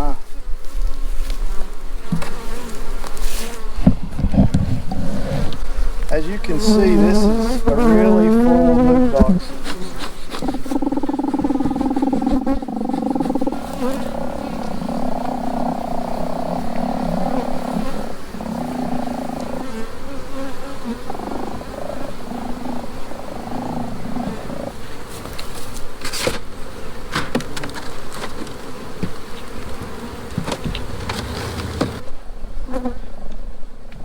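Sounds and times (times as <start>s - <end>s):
honey bees buzzing loudly: 0.0s - 33.1s.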